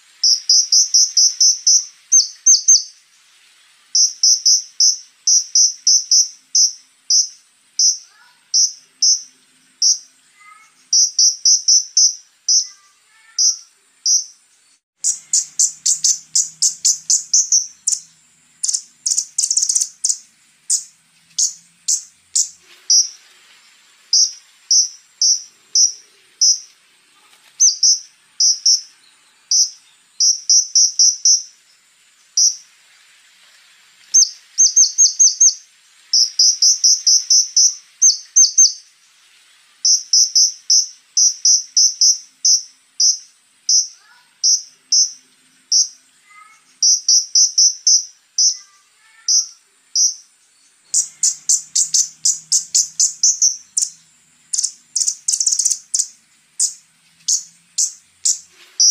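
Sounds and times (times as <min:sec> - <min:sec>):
sunbird singing: 0:00.0 - 0:39.0, 0:39.6 - 0:58.9.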